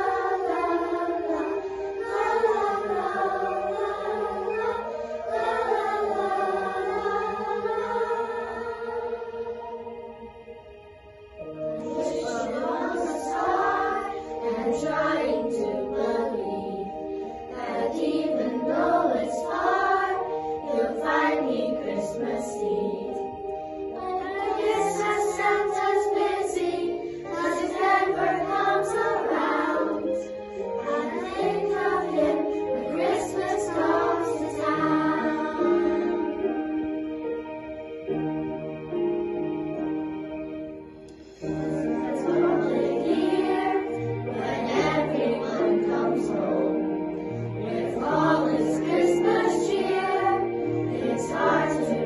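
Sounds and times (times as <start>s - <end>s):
children's choir singing: 0.0s - 52.0s
instrumental accompaniment: 0.0s - 52.0s.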